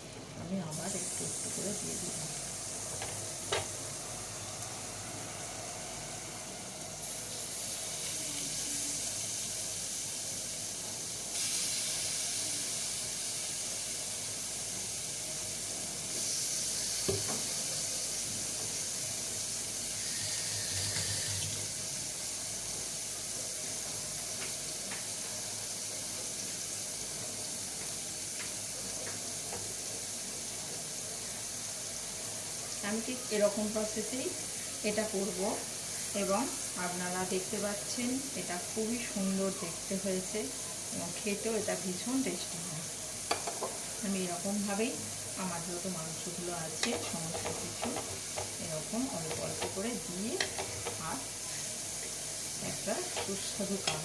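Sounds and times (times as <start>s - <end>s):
chicken sizzling in butter: 0.0s - 54.0s.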